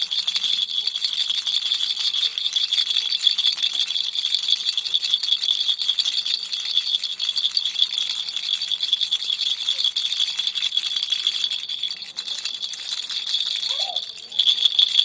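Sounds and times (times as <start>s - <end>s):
baby rattle shaking: 0.0s - 15.0s.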